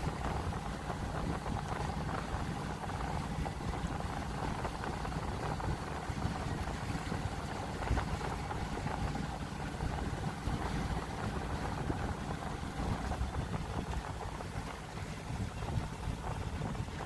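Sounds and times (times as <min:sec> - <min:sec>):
boat engine running at low speed: 0:00.0 - 0:17.0.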